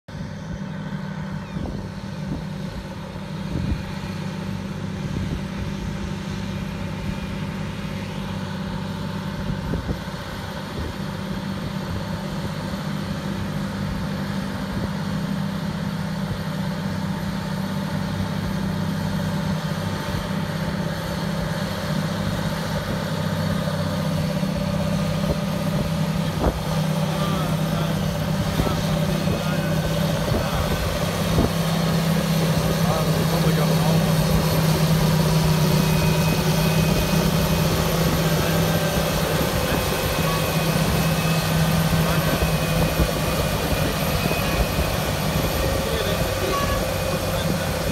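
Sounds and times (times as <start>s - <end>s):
tractor diesel engines under load: 0.1s - 47.9s.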